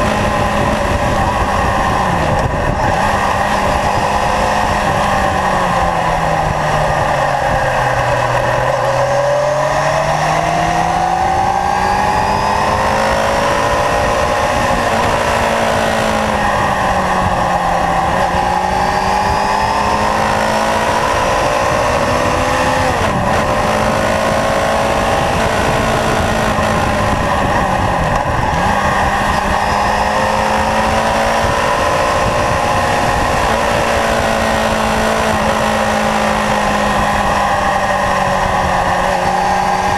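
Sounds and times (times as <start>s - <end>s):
motorcycle engine revving: 0.0s - 39.9s
wind rush over microphone: 0.0s - 39.9s.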